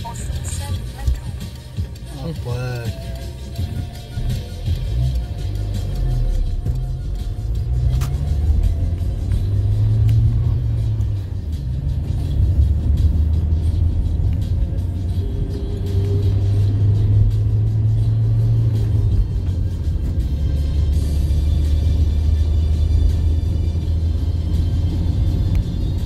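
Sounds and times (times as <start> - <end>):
car engine rumble: 0.0 - 26.0
tyres on asphalt road: 0.0 - 26.0.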